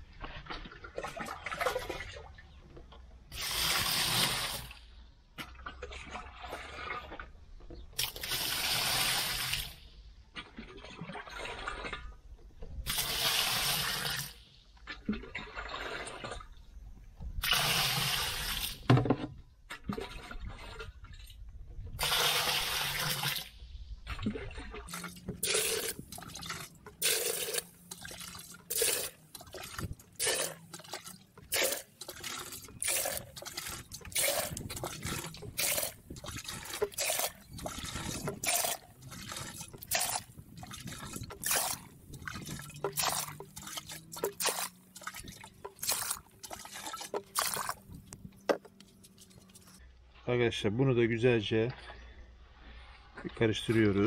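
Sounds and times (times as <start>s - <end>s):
water splashing and sloshing: 0.0s - 50.3s
water pouring into plastic barrel: 0.2s - 2.4s, 3.2s - 4.8s, 5.4s - 7.4s, 8.0s - 49.8s.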